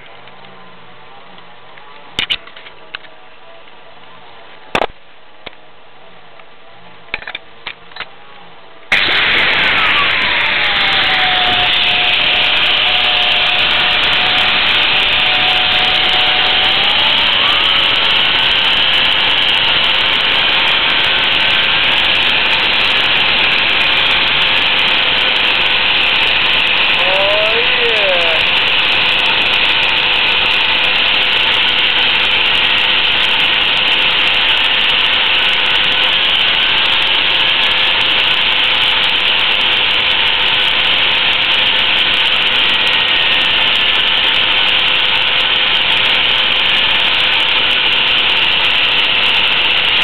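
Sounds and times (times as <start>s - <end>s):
lathe running with hiss and whine: 8.9s - 50.0s.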